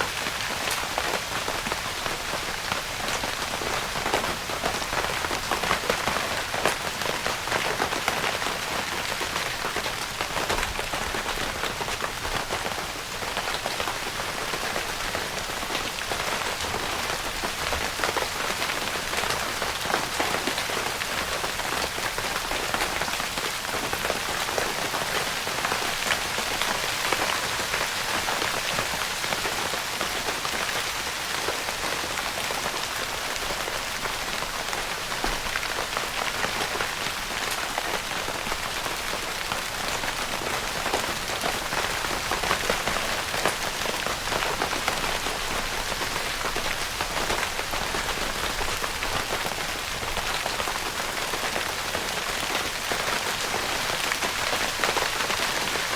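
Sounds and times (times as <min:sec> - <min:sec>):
rain pattering on tent fabric: 0:00.0 - 0:55.9.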